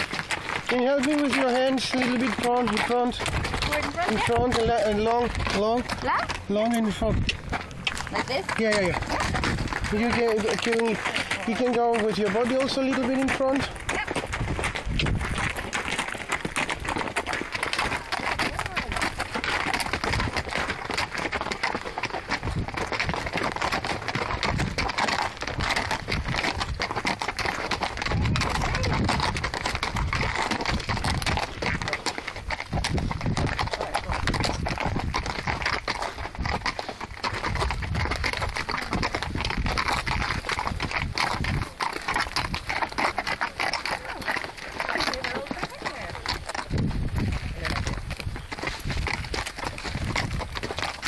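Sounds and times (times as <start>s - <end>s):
horse hooves clip-clopping: 0.0s - 51.0s.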